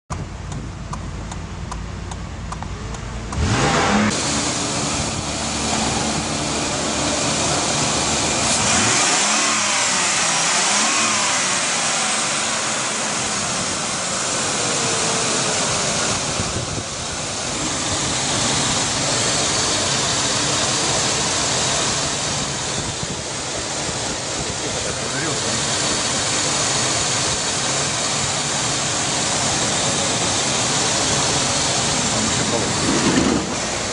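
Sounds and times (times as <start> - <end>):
car engine starting and running: 0.1 - 33.9.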